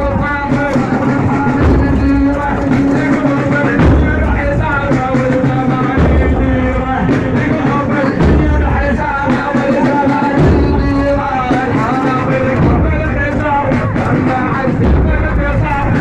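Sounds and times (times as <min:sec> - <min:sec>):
heavy low beat: 0:00.0 - 0:16.0
man chanting melodically: 0:00.0 - 0:16.0.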